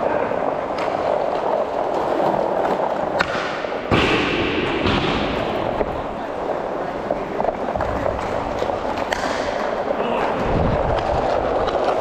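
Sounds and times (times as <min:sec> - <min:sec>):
skate wheels rolling on plastic tiles: 0:00.0 - 0:12.0.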